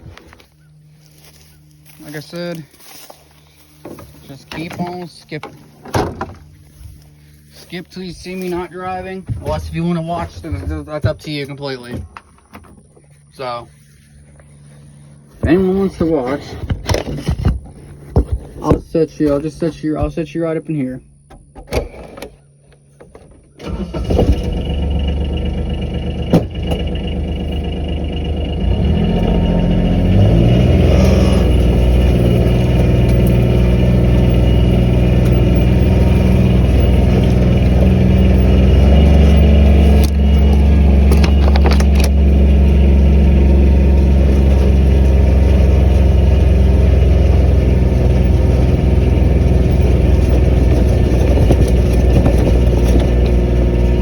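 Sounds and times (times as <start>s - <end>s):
vehicle engine starting and driving off: 0.0s - 18.1s, 23.4s - 54.0s.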